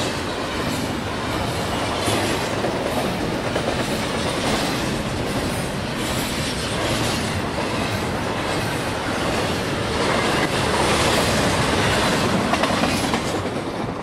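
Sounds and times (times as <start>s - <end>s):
freight train wheels rumbling and clacking: 0.0s - 14.0s.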